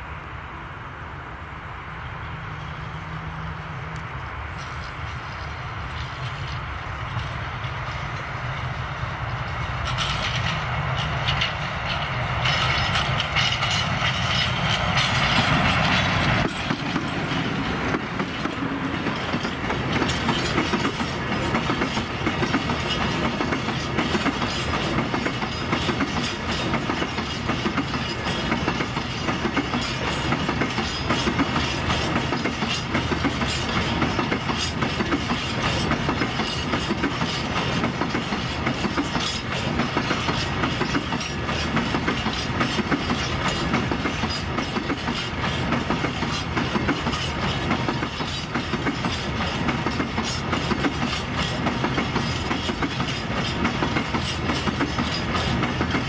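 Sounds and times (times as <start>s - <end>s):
electric locomotive passing: 0.0s - 56.0s
wheels clattering over rail joints: 4.5s - 56.0s.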